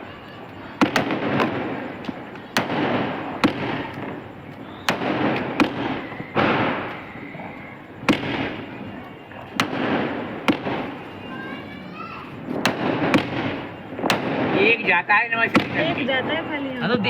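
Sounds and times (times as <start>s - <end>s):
firework bangs: 0.0s - 17.0s
firework hiss: 0.0s - 17.0s.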